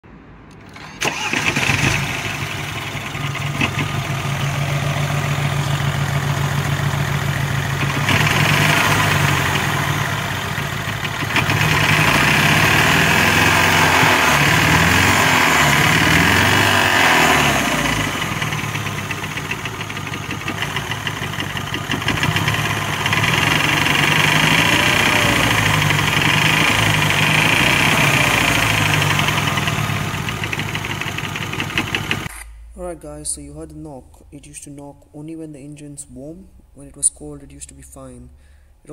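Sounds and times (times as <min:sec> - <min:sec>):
car engine revving: 0:00.6 - 0:32.3
engine knocking: 0:01.1 - 0:32.3.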